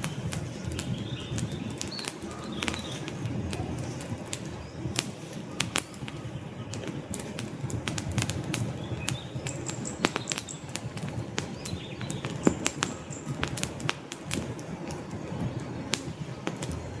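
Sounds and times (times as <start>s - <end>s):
logs crackling and popping: 0.0s - 17.0s
rush of flame: 0.0s - 17.0s.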